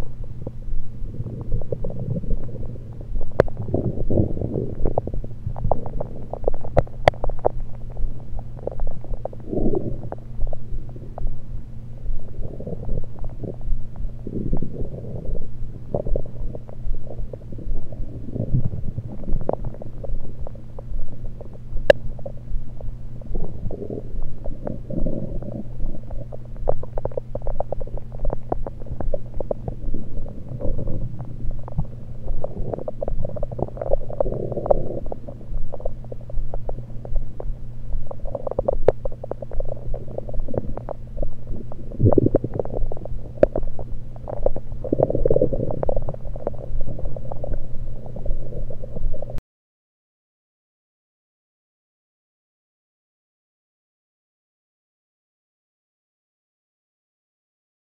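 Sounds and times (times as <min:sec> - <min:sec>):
steady low hum: 0:00.0 - 0:49.4
stomach gurgles and rumbles: 0:00.0 - 0:49.4.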